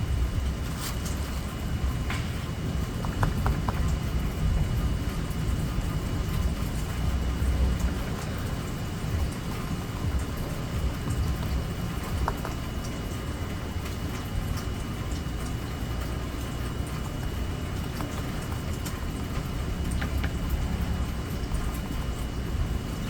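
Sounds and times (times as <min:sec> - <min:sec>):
steady rainfall: 0:00.0 - 0:23.0
drips and small taps: 0:00.6 - 0:04.2, 0:06.3 - 0:23.0.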